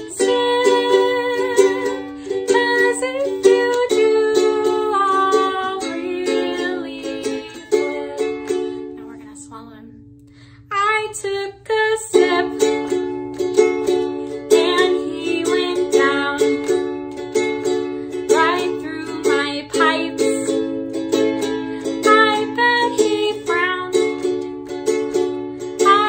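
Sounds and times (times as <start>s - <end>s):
string instrument strummed chords: 0.0s - 9.8s, 12.1s - 26.0s.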